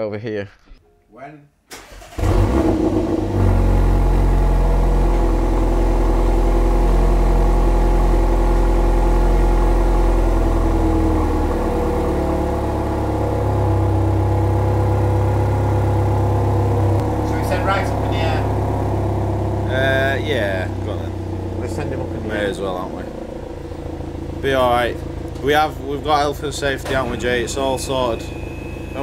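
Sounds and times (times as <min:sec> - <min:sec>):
car engine idling: 0:01.8 - 0:29.0.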